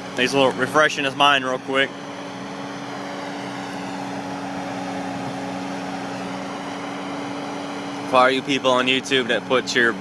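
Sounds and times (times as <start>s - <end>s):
loader engine humming: 0.0s - 10.0s.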